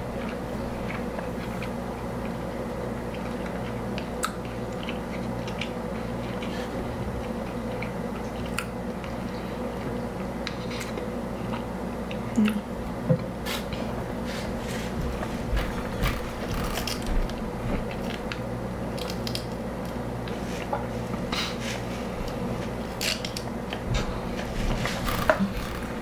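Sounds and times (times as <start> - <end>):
person chewing food: 0.0 - 12.6, 13.6 - 26.0.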